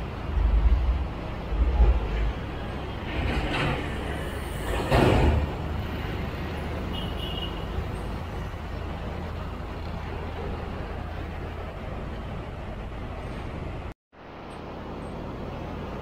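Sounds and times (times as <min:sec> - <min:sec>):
heavy road traffic: 0:00.0 - 0:16.0.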